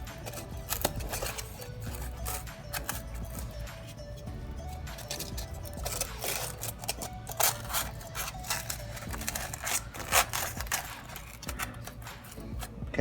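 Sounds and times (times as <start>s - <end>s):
styrofoam panel scraping and rubbing: 0.0s - 12.8s.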